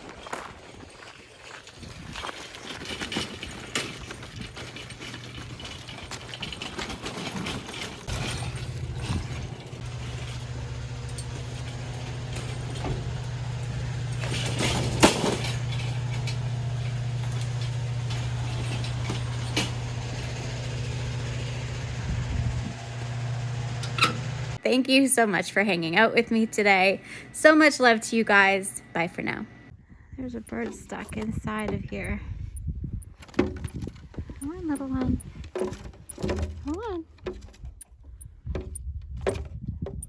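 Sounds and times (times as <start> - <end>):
low mechanical hum: 0.2 - 40.0
rattles and knocks: 2.0 - 24.6, 30.3 - 40.0.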